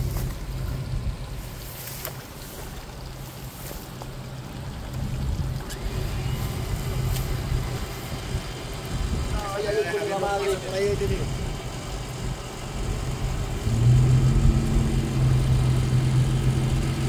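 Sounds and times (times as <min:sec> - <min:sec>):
low rumbling noise: 0:00.0 - 0:17.0
vehicle engine idling: 0:00.0 - 0:17.0.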